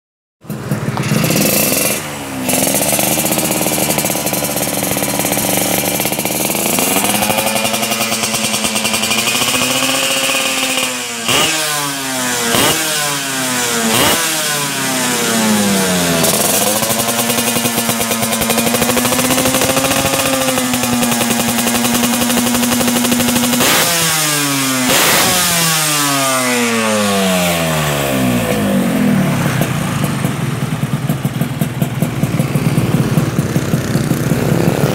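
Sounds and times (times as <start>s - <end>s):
two-stroke motorcycle engine revving: 0.4s - 34.9s.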